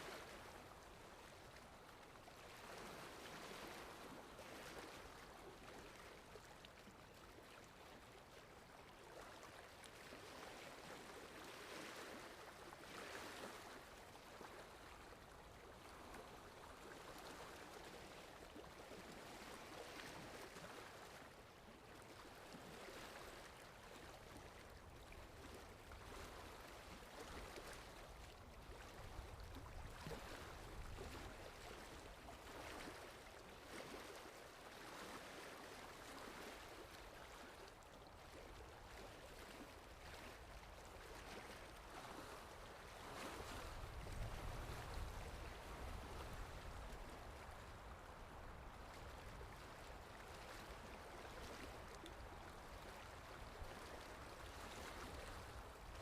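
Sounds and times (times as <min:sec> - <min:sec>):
faint sea waves washing in: 0:00.0 - 0:56.0.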